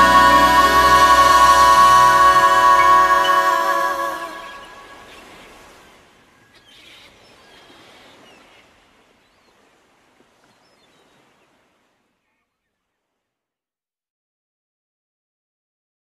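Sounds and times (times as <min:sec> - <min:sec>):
faint outdoor background noise: 0:00.0 - 0:13.5.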